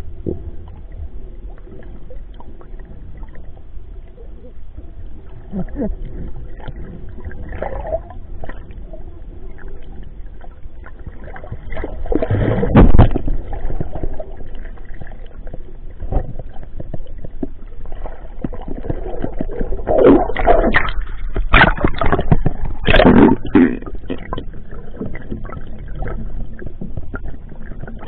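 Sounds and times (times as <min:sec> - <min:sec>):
water sloshing and gurgling: 0:00.0 - 0:28.0.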